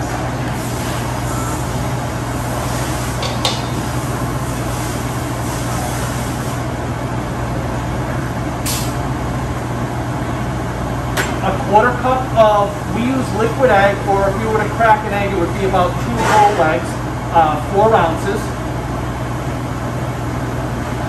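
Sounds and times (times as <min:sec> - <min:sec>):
ventilation rush and hum: 0:00.0 - 0:21.0.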